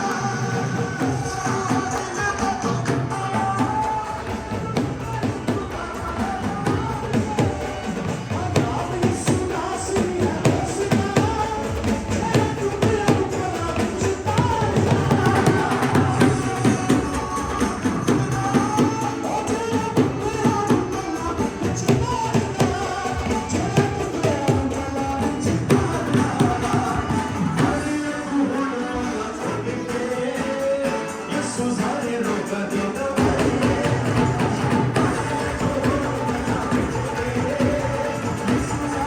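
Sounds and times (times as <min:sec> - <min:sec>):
drum and percussion beat: 0:00.0 - 0:39.0
live worship music with singing: 0:00.0 - 0:39.0.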